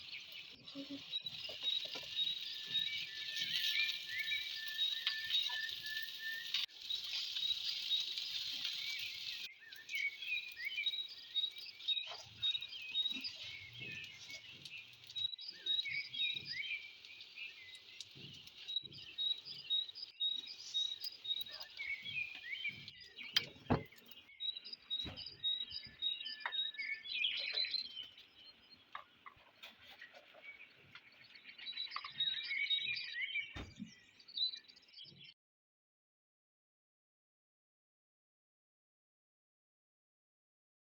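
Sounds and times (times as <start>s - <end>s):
small birds chirping: 0.0s - 35.4s.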